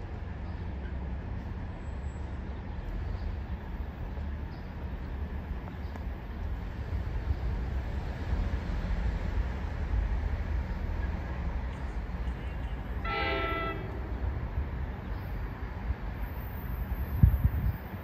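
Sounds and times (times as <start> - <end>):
train rumble approaching: 0.0 - 18.0.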